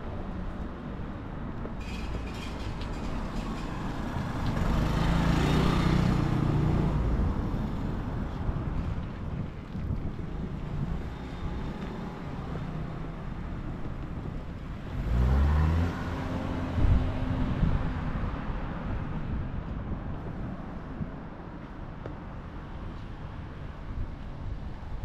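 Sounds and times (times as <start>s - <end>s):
wind rumble on microphone: 0.1s - 25.0s.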